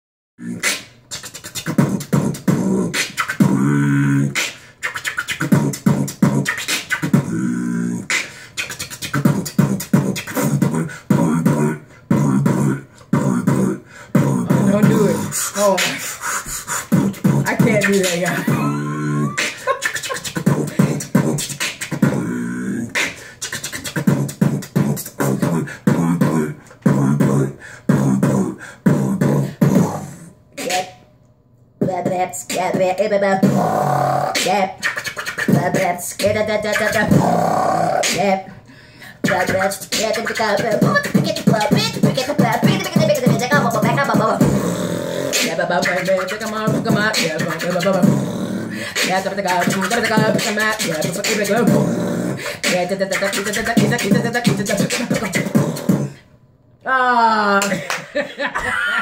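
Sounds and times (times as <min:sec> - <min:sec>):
beatboxing: 0:00.4 - 0:31.0, 0:31.8 - 0:56.3.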